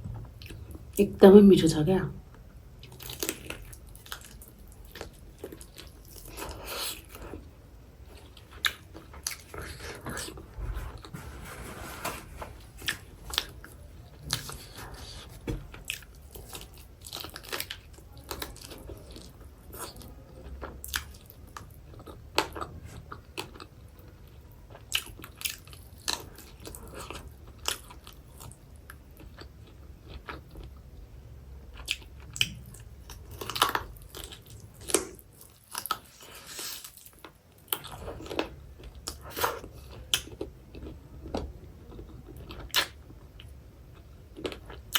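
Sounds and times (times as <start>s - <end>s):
person chewing crunchy food: 2.8s - 12.0s, 12.8s - 23.8s, 24.7s - 30.8s, 31.8s - 44.9s.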